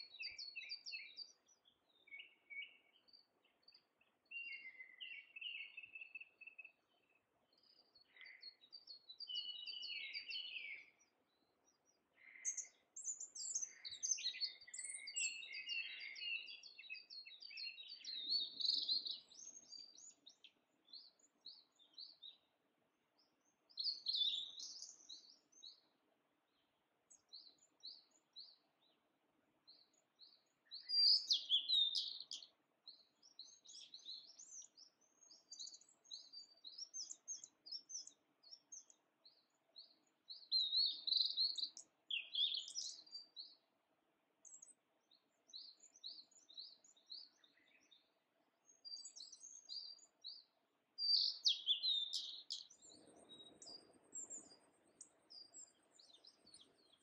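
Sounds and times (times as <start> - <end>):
songbirds chirping and singing: 0.0 - 22.6, 23.2 - 29.0, 29.6 - 43.7, 44.4 - 57.0.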